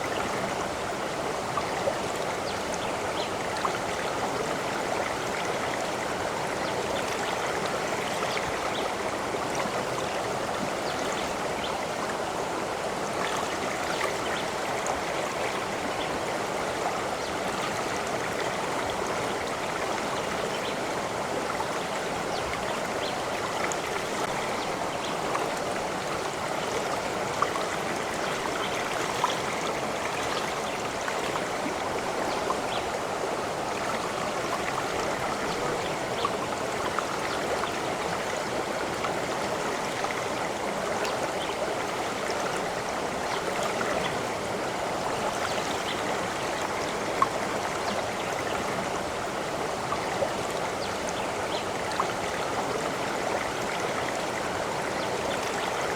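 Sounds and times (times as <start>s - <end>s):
stream running over stones: 0.0s - 55.9s.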